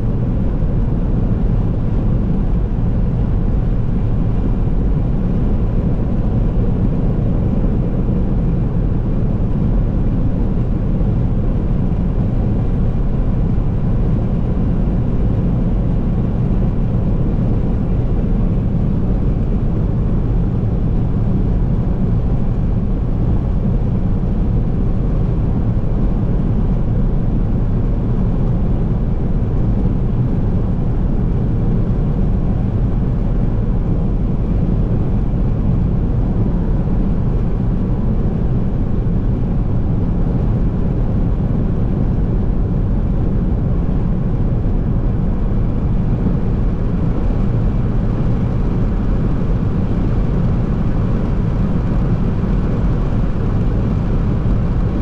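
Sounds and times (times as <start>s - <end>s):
car road noise at highway speed: 0.0s - 55.0s.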